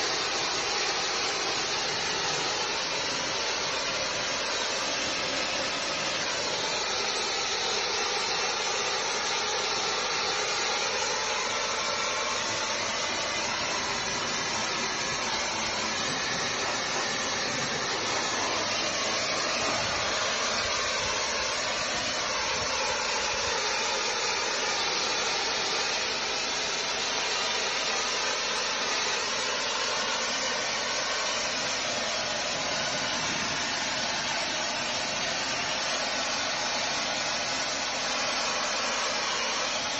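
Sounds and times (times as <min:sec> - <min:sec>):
hiss of water jet spraying: 0:00.0 - 0:39.9
machine running: 0:00.0 - 0:39.9.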